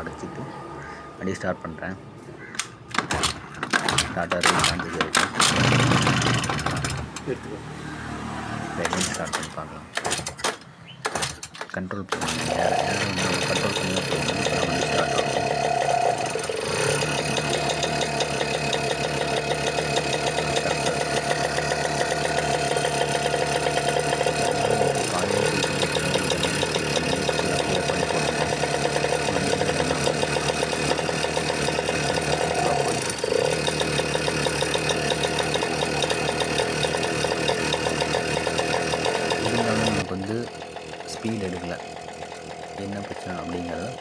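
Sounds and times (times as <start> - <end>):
scooter engine idling: 5.5 - 9.9, 12.2 - 44.0.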